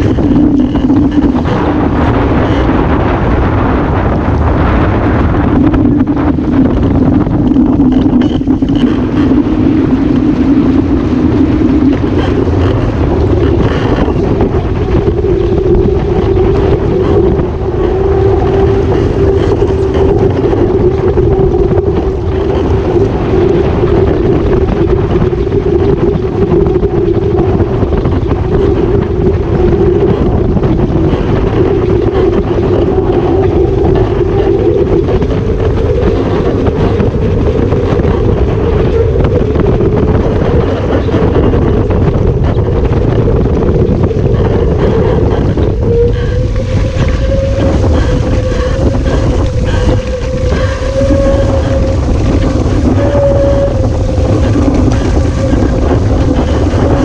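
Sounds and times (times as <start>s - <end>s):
hydrofoil hum: 0.0s - 57.0s
rushing water: 0.0s - 57.0s
wind buffeting microphone: 0.0s - 57.0s.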